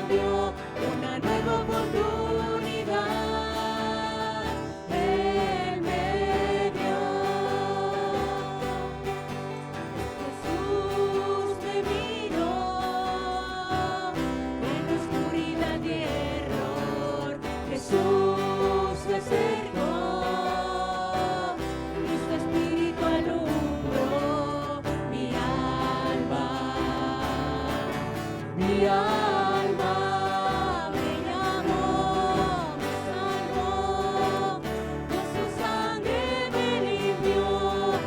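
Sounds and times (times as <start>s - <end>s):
group singing worship music: 0.0s - 38.0s.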